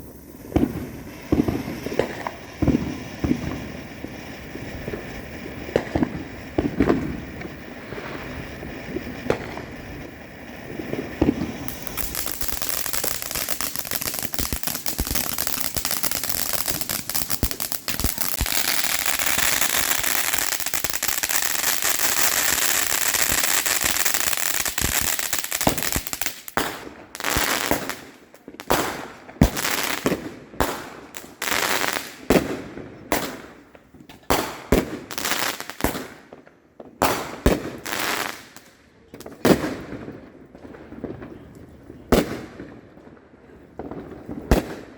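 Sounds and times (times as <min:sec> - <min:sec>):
fireworks crackling: 0:00.0 - 0:42.8, 0:43.7 - 0:44.9
fireworks bangs: 0:00.0 - 0:44.9.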